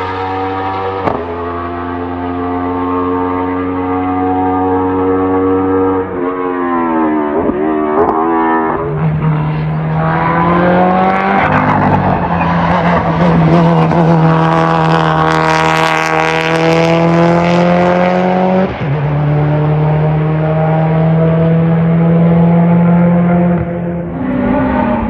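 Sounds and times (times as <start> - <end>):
race car accelerating: 0.0 - 25.0.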